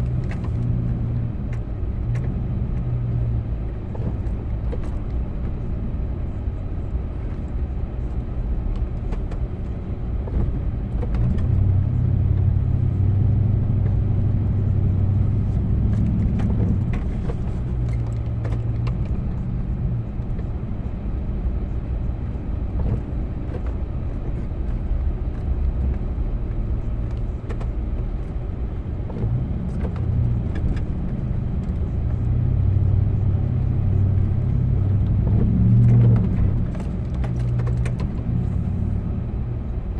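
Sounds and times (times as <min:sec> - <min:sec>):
snowplow engine running: 0:00.0 - 0:39.9.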